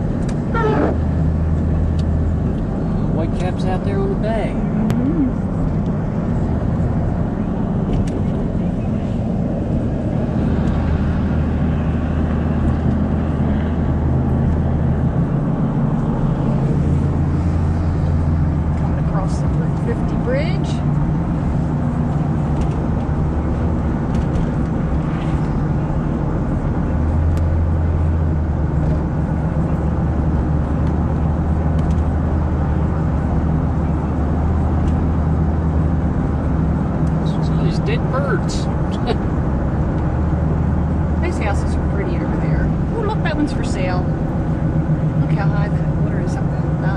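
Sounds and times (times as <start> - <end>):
car engine drone: 0.0 - 46.9
tyres on the road: 0.0 - 46.9.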